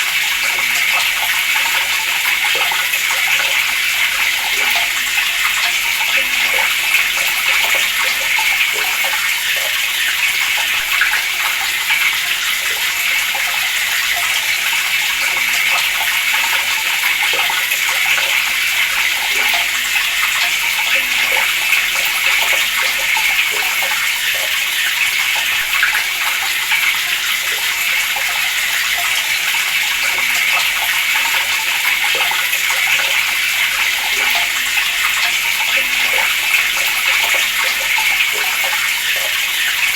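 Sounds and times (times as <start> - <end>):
water running from a tap: 0.0 - 39.9.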